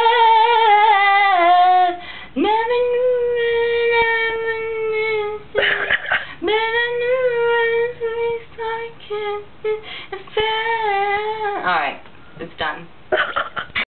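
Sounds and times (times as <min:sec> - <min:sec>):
woman singing unaccompanied: 0:00.0 - 0:12.1.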